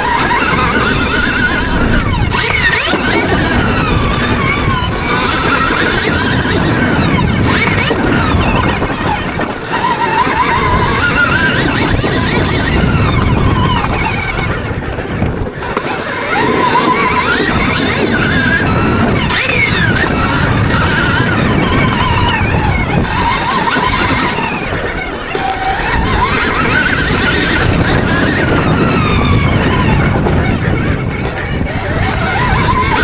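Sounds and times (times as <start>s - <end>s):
electric motorbike motor whining: 0.0s - 33.0s
rushing wind: 0.0s - 33.0s
tyre noise: 0.0s - 33.0s.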